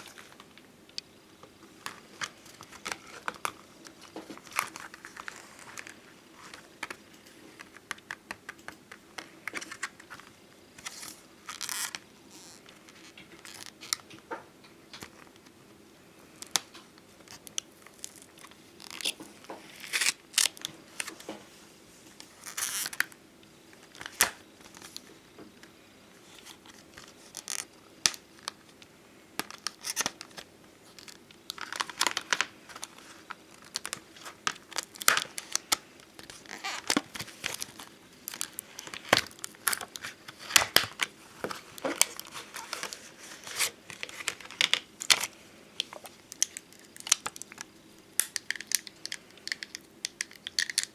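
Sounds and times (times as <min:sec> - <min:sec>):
stickers peeling and crinkling: 0:01.8 - 0:15.4, 0:16.3 - 0:21.5, 0:22.2 - 0:23.1, 0:23.8 - 0:25.2, 0:26.2 - 0:50.9.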